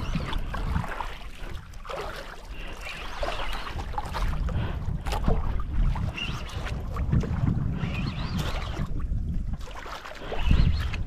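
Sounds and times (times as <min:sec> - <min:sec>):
water slapping boat hull: 0:00.0 - 0:11.0
wind buffeting microphone: 0:00.0 - 0:11.0.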